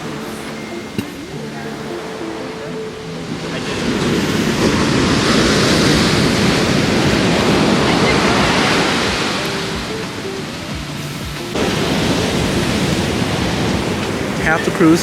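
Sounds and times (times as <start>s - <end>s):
ocean wave breaking on shore: 0.0s - 15.0s.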